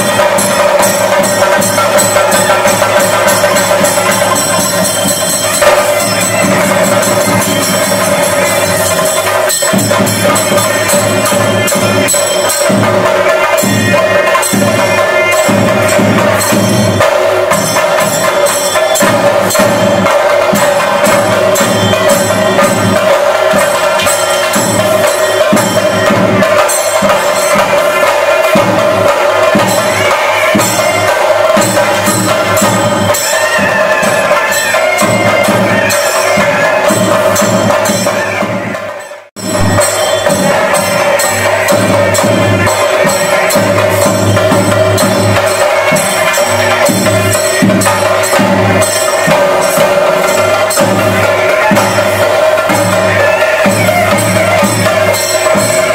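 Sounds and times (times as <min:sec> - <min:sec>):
cymbal shimmer: 0:00.0 - 0:38.6, 0:39.4 - 0:55.9
drums beating rhythmically: 0:00.0 - 0:55.9.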